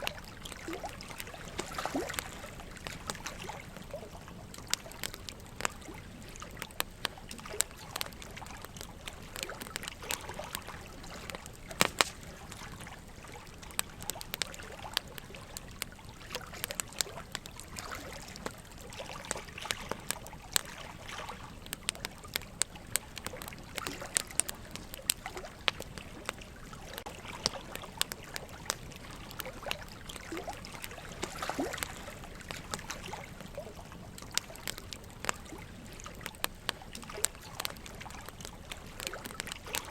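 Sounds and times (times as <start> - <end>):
running water trickling: 0.0 - 39.9
wood fire crackling: 0.0 - 39.9.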